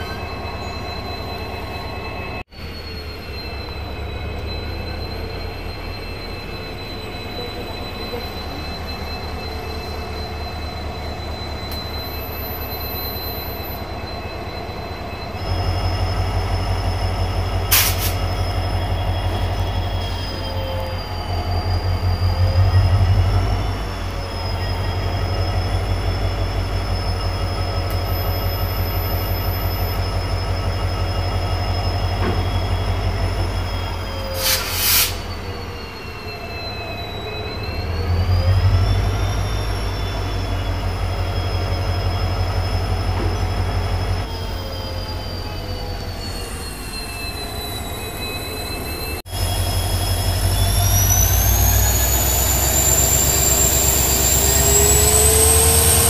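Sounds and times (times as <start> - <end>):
high whining tones: 0.0 - 56.0
locomotive engine rumble: 0.0 - 56.0.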